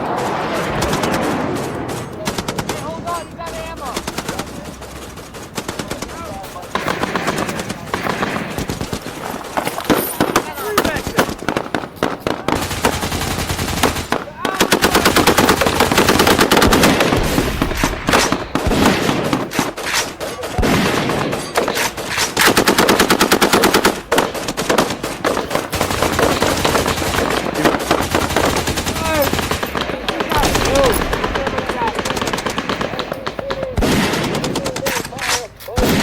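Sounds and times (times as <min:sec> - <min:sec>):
rapid automatic gunfire: 0:00.0 - 0:36.0.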